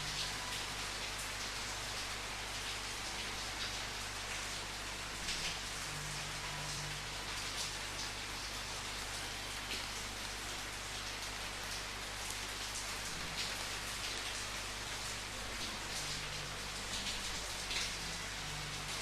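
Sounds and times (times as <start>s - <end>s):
steady rainfall: 0.0s - 19.0s.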